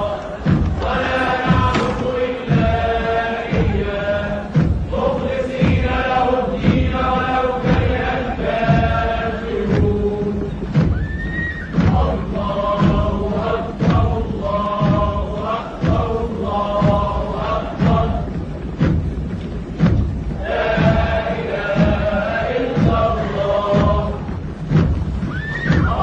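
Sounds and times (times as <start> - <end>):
voices singing long held lines: 0.0 - 18.9, 19.7 - 26.0
steady drum beat: 0.0 - 26.0.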